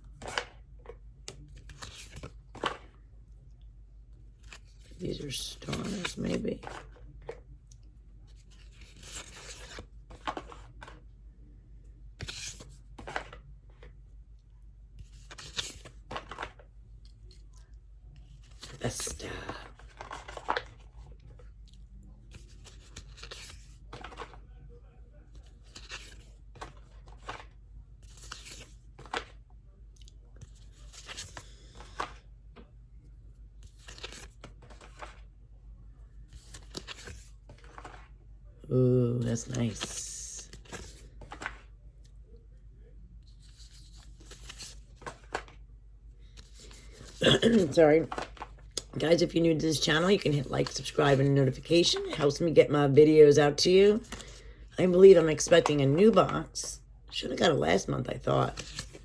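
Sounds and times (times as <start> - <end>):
cards rustling and scraping: 0.0 - 3.1, 4.2 - 11.1, 12.0 - 24.6, 25.2 - 29.4, 30.1 - 38.2, 39.1 - 42.6, 43.2 - 56.6, 57.7 - 59.0.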